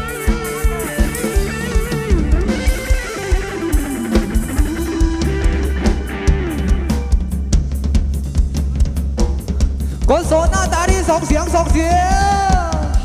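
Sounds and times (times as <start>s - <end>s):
bending lead guitar: 0.0s - 13.0s
drum-kit beat: 0.0s - 13.0s.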